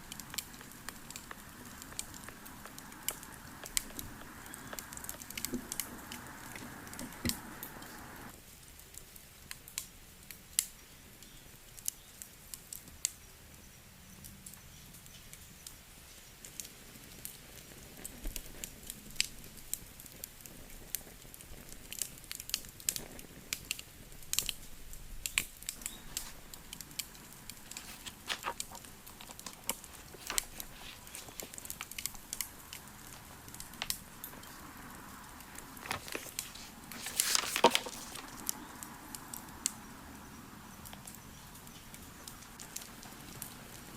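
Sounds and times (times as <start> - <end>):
wood fire crackling: 0.0 - 8.4, 16.4 - 43.9
steady background noise: 0.0 - 9.6, 13.8 - 43.9.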